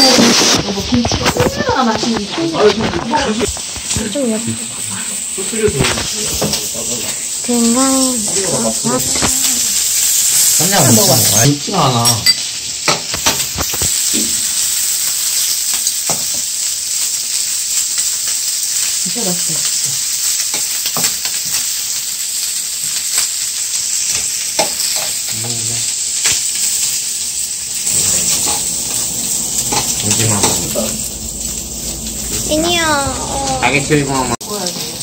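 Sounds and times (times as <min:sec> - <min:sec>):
meat sizzling on a griddle: 0:00.0 - 0:35.0.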